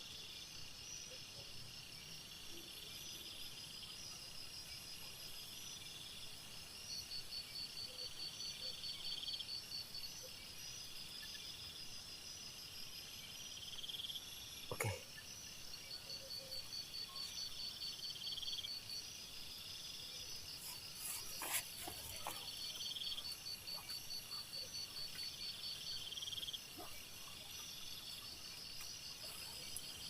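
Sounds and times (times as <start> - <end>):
insects trilling: 1.8 - 30.0.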